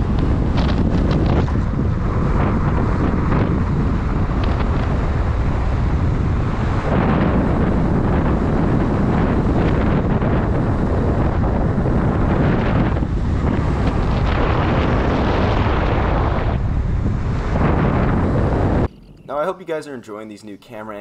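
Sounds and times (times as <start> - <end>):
wind rushing over microphone: 0.0 - 20.1.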